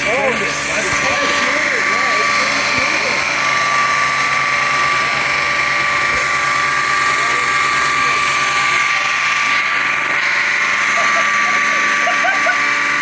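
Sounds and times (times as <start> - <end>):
car engine high idle whine: 0.0 - 13.0.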